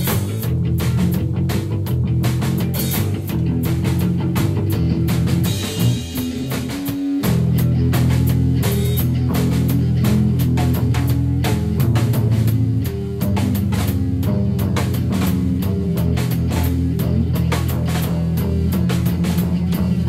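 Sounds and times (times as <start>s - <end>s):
drum kit fast hits: 0.0s - 20.0s
electric guitar: 0.0s - 20.0s.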